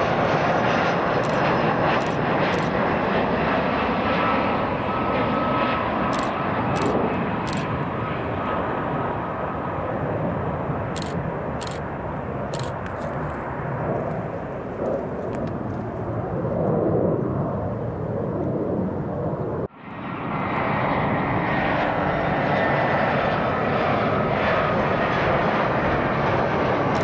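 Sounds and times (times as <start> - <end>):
jet airliner engines rushing: 0.0 - 27.0.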